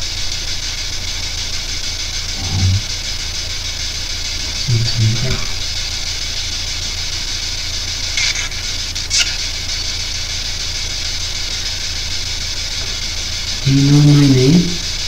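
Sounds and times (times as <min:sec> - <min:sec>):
electrical hiss: 0:00.0 - 0:15.0
low mains hum: 0:00.0 - 0:15.0.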